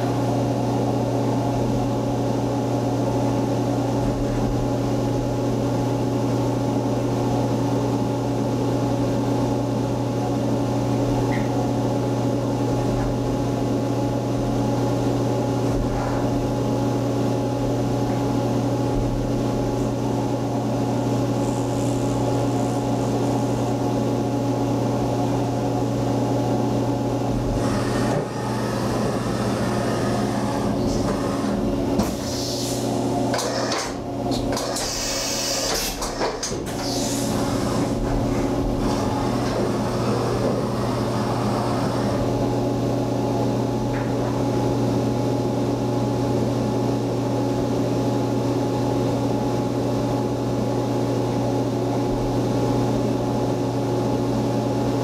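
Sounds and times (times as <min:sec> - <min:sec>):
milling machine hum: 0:00.0 - 0:55.0.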